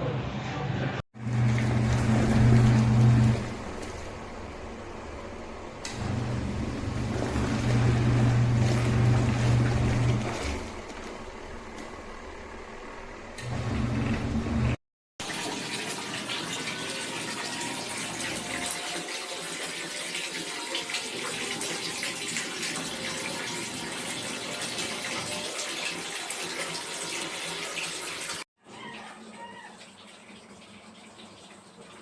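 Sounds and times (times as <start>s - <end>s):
water splashing in washing machine: 1.2s - 12.1s, 13.4s - 32.0s.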